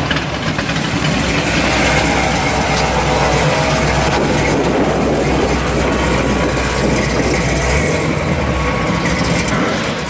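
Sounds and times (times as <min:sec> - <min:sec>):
car engine running rough: 0:00.0 - 0:10.0.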